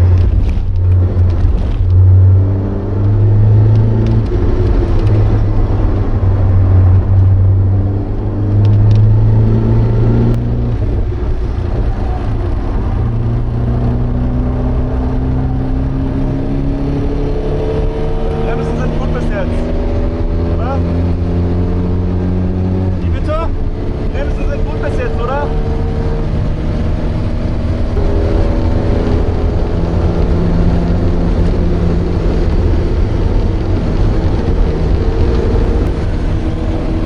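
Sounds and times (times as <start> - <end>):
car engine from inside cabin: 0.0 - 37.0.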